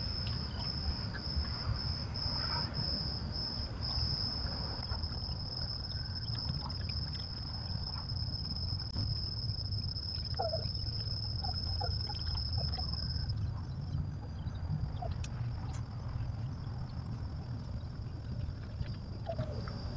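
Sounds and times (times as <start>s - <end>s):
crickets trilling: 0.0s - 19.9s
low steady rumble: 0.0s - 19.9s.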